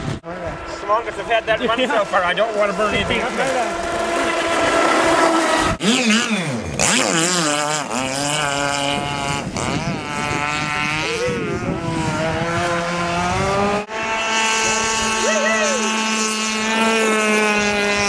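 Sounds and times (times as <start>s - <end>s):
model speedboat motors whining: 0.3s - 18.0s.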